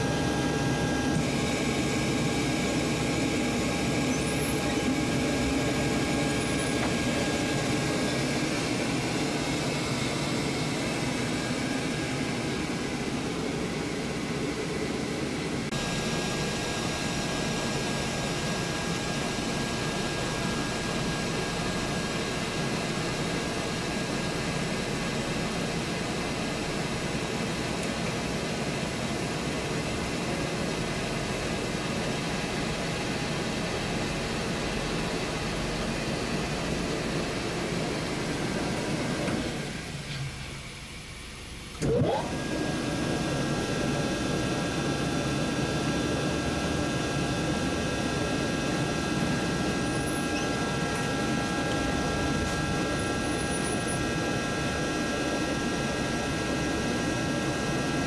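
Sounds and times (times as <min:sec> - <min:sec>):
air compressor humming: 0:00.0 - 0:58.0.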